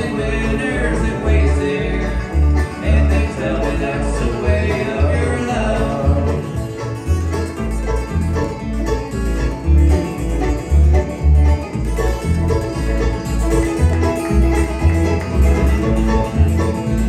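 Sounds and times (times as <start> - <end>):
acoustic guitar: 0.0 - 17.0
banjo: 0.0 - 17.0
fiddle: 0.0 - 17.0
upright bass: 0.0 - 17.0.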